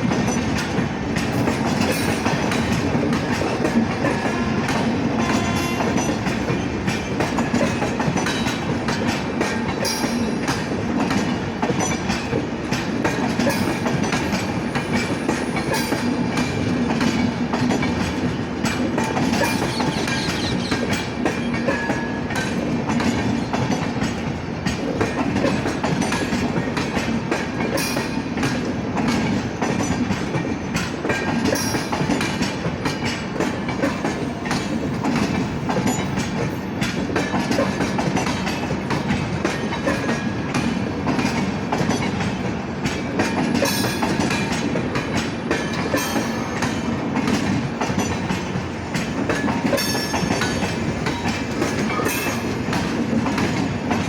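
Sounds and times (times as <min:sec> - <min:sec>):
train wheels clacking over rail joints: 0:00.0 - 0:54.0.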